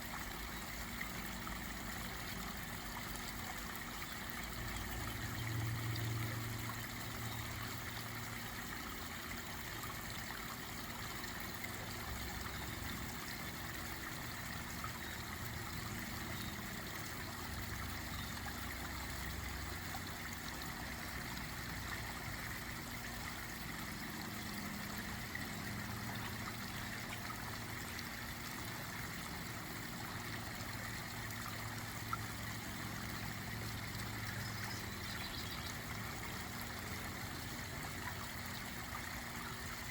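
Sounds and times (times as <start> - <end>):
water trickling down waterfall: 0.0 - 39.9.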